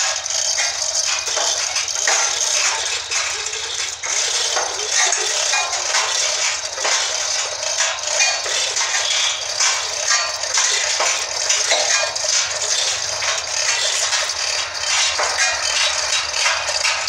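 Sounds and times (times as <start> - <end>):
chain hoist chain rattling: 0.0 - 17.0.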